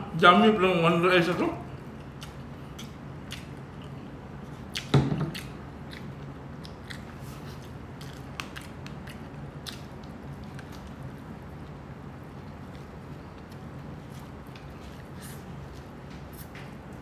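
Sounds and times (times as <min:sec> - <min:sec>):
steady low hum: 0:00.0 - 0:17.0
chewing crispy food: 0:01.7 - 0:16.0.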